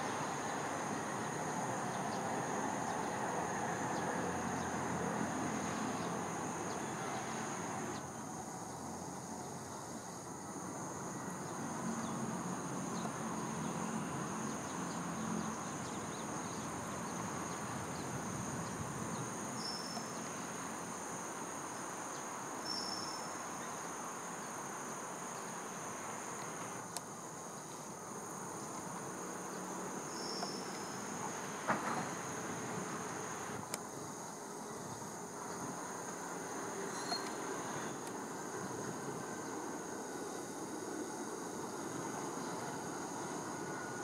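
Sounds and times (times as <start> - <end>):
insects trilling: 0.0 - 44.0
low background hiss: 0.0 - 44.0.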